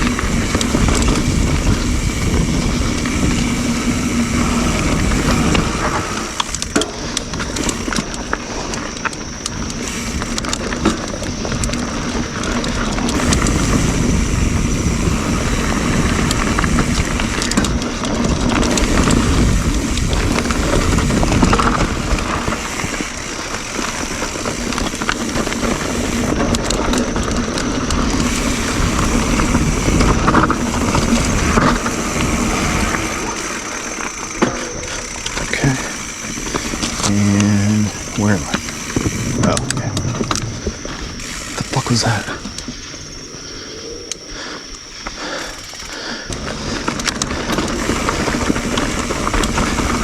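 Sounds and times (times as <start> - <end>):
wind noise on microphone: 0.0 - 41.7, 46.3 - 50.0
bike knocks and rattles: 0.0 - 42.8, 45.6 - 50.0
bike tyres rumbling on dirt: 0.0 - 50.0.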